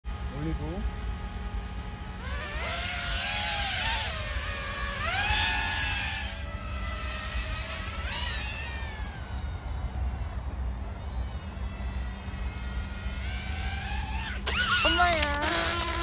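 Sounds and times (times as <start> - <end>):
drone propellers whining: 0.1 - 16.0.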